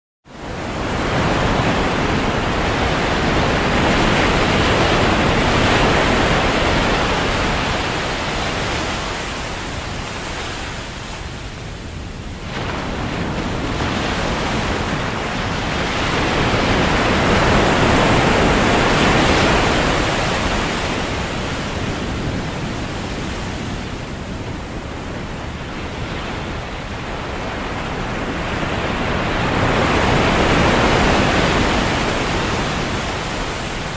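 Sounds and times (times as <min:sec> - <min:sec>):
ocean surf on sandy beach: 0:00.3 - 0:33.9.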